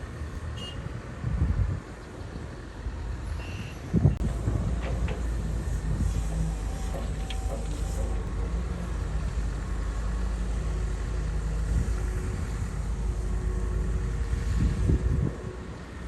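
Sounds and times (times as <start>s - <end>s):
bulldozer diesel engine rumbling: 0.0s - 16.0s.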